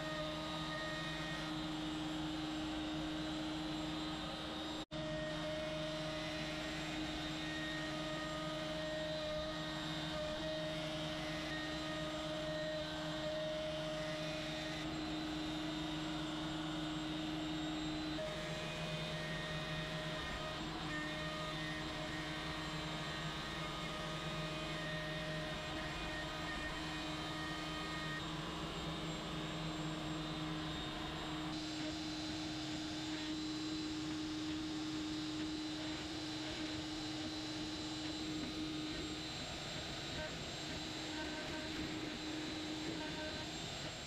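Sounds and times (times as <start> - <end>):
router spindle whining: 0.0 - 44.0.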